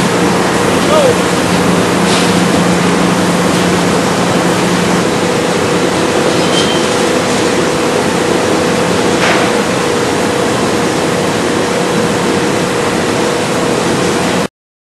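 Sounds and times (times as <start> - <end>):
constant machinery hum: 0.0 - 14.5
industrial machinery rushing: 0.0 - 14.5.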